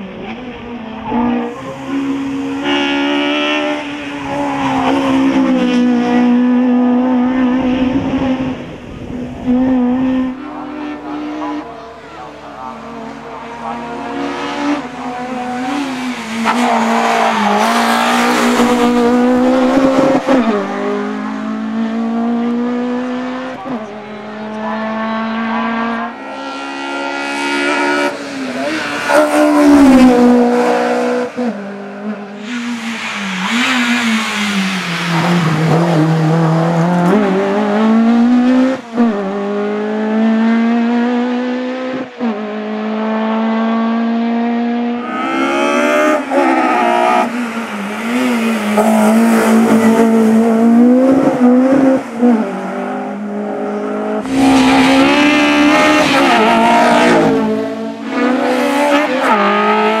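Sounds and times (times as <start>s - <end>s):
race car engine revving: 0.0s - 60.0s.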